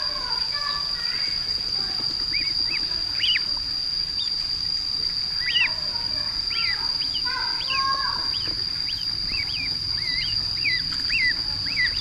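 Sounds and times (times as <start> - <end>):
ducklings peeping: 0.0 - 12.0
steady high-pitched whine: 0.0 - 12.0.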